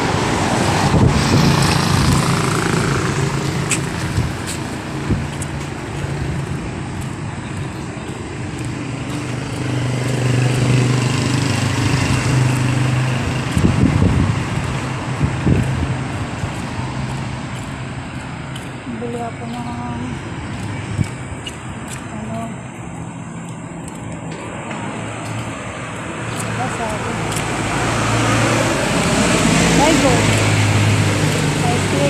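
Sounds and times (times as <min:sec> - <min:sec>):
traffic noise: 0:00.0 - 0:32.0
vehicle engine humming: 0:00.0 - 0:32.0.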